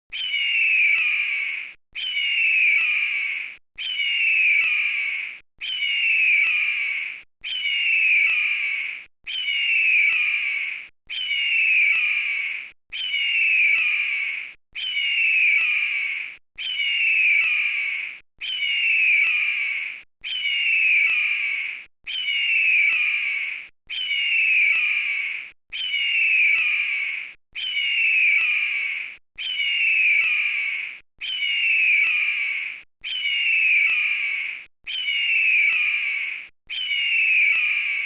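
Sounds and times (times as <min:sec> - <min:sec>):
eagle screaming: 0:00.1 - 0:38.0.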